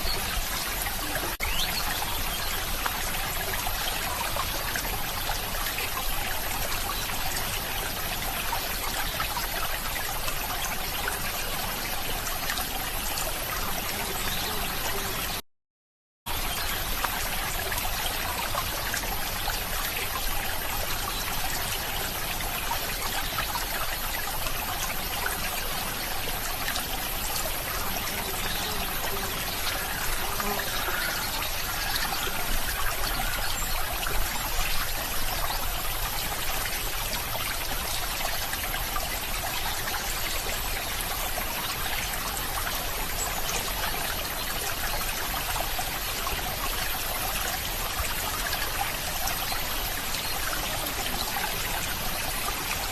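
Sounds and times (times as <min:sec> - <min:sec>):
stream trickling and splashing: 0:00.0 - 0:15.4, 0:16.3 - 0:52.9.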